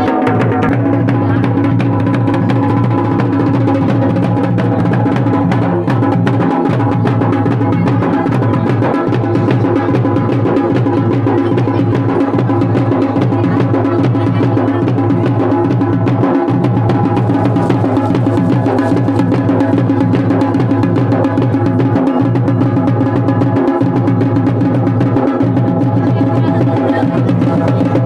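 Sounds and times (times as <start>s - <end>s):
fast drum beats: 0.0s - 28.0s.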